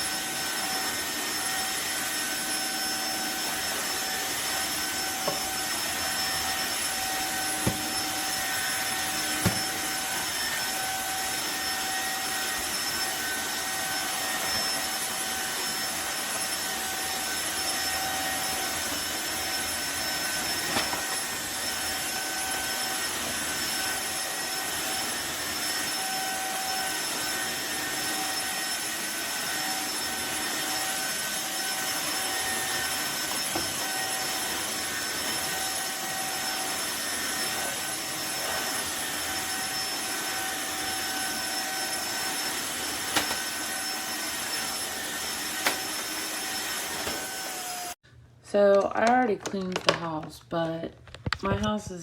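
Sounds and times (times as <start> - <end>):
floor vacuum running: 0.0 - 48.8.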